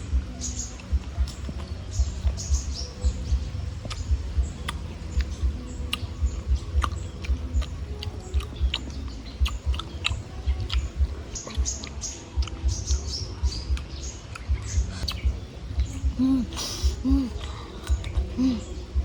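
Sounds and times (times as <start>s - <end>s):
bird chirps: 0.0s - 19.0s
dense low thumps: 0.0s - 19.0s
nuts being chewed: 0.7s - 19.0s.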